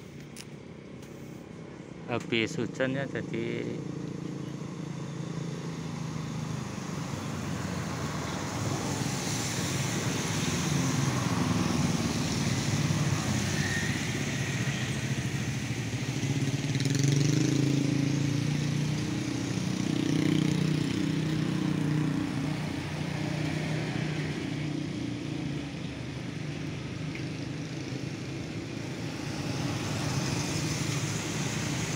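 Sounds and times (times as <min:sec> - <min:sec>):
vehicles passing: 0:00.0 - 0:31.9
tyres hissing on wet road: 0:05.4 - 0:31.9.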